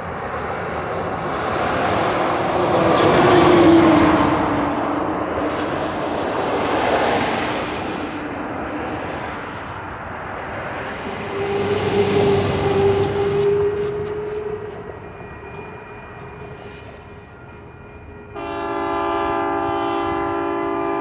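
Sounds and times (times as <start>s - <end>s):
cars and trucks passing: 0.0s - 21.0s.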